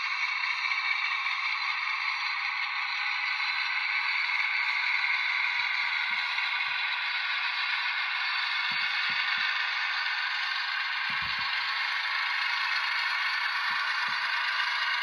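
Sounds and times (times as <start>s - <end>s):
hissing blower sound from speaker: 0.0s - 15.0s.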